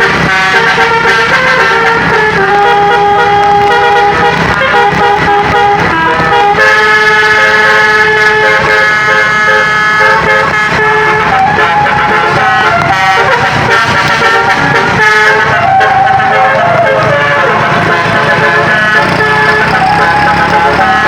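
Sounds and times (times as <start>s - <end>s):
bus musical horn playing a tune: 0.0s - 21.0s.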